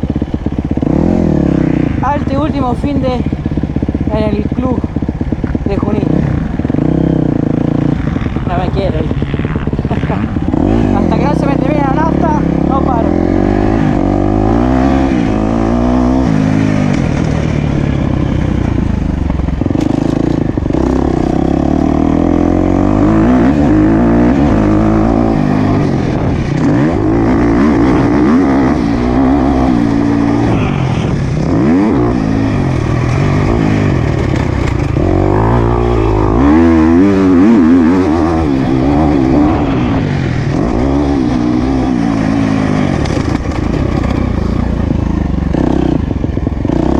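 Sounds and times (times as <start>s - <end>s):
motocross bike engine revving: 0.0s - 46.9s.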